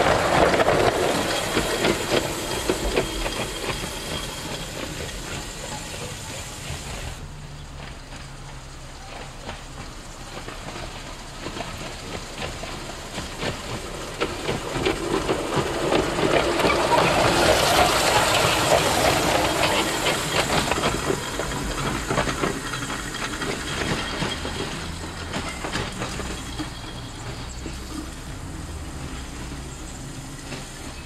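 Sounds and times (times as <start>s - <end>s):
model streetcar wheels on rails: 0.0s - 31.0s.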